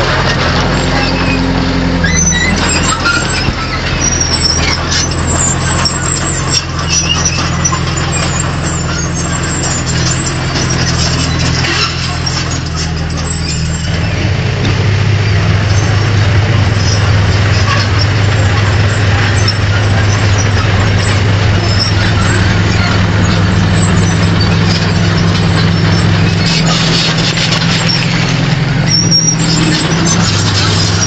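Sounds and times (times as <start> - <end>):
diesel engine running: 0.0 - 31.0
metal clanks and knocks: 2.4 - 31.0.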